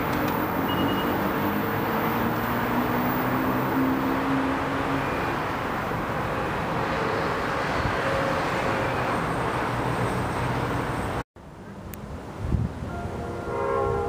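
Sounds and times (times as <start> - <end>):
train passing: 0.0 - 14.0.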